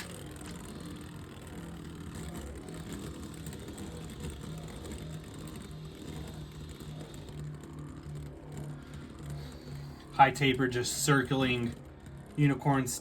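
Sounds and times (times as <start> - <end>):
spinning tops whirring: 0.0 - 13.0.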